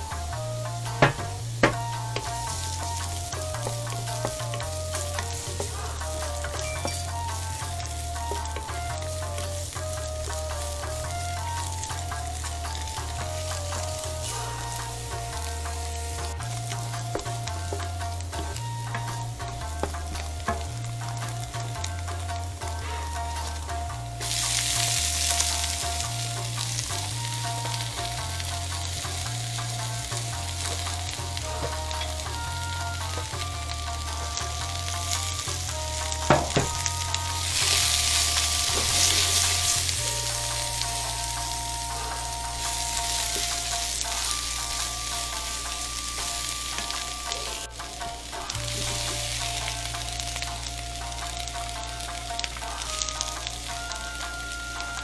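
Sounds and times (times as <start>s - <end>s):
vegetables sizzling in frying pan: 0.0s - 55.0s.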